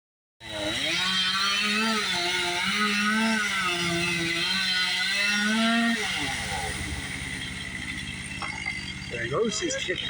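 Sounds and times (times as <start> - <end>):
chainsaw cutting a tree: 0.4 - 10.0.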